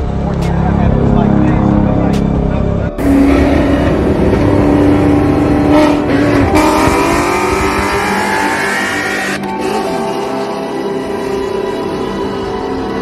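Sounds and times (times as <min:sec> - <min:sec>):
car engines accelerating hard: 0:00.0 - 0:13.0.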